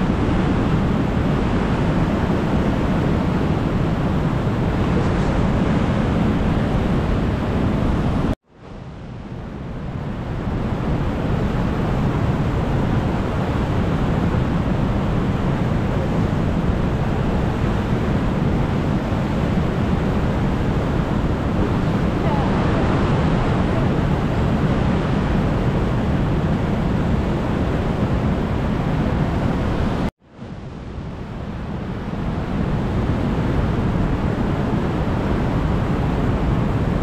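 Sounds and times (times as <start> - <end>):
loud rushing outdoor noise: 0.0 - 37.0.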